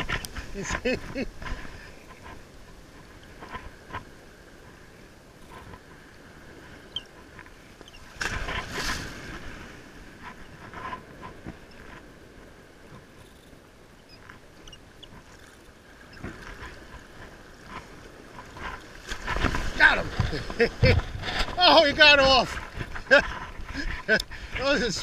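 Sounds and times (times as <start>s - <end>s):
surf washing on sandy beach: 0.0s - 25.0s.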